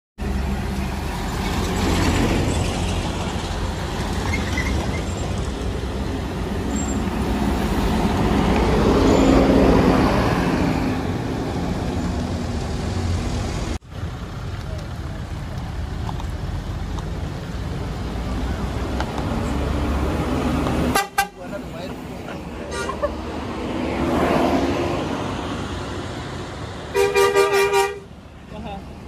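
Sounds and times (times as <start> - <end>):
bus driving past: 0.2 - 29.0
low traffic rumble: 0.2 - 29.0.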